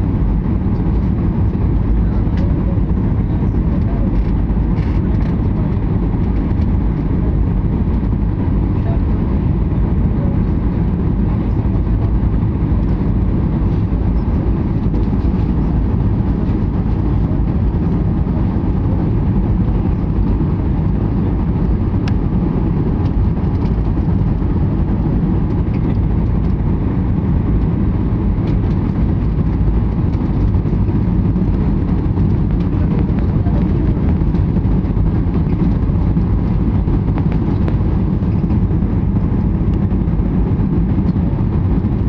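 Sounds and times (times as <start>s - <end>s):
aeroplane engines roaring: 0.0s - 42.0s.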